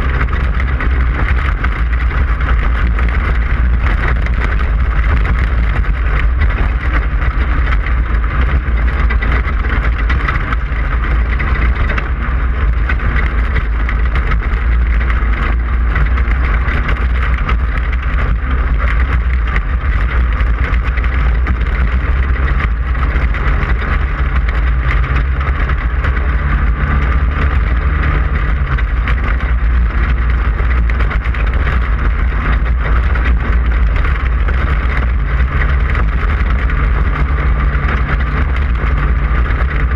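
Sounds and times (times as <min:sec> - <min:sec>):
race car engine running hard: 0:00.0 - 0:39.9
rattling over rough terrain: 0:00.0 - 0:39.9.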